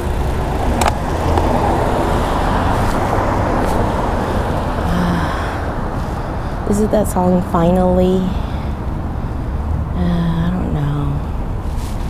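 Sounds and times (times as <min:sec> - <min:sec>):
wind on microphone: 0:00.0 - 0:10.6
deep rumble: 0:00.0 - 0:12.0
street traffic: 0:00.0 - 0:12.0.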